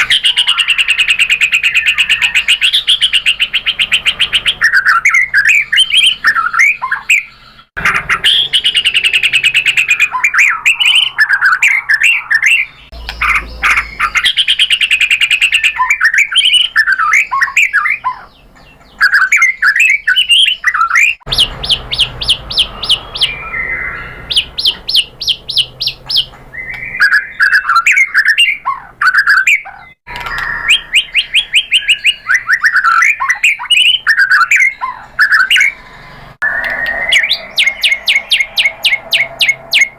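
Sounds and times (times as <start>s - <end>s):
bird singing whistled phrases: 0.0s - 35.8s, 36.4s - 39.9s.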